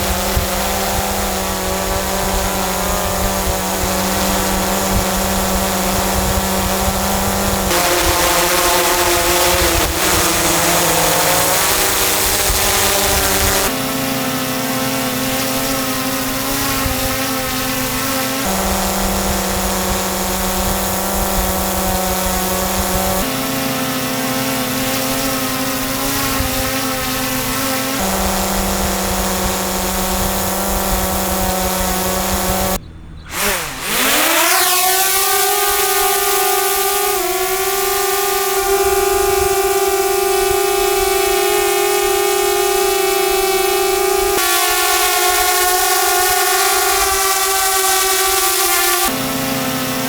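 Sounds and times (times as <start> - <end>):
drone propeller hum: 0.0 - 50.0.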